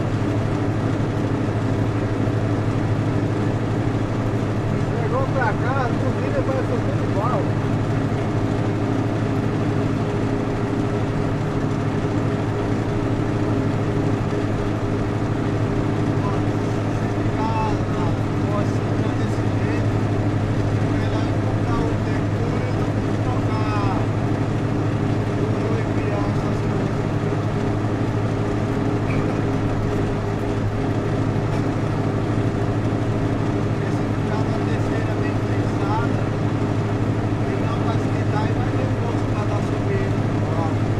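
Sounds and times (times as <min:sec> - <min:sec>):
constant background hum: 0:00.0 - 0:40.9
road and wind noise: 0:00.0 - 0:40.9
vehicle engine running: 0:00.0 - 0:40.9.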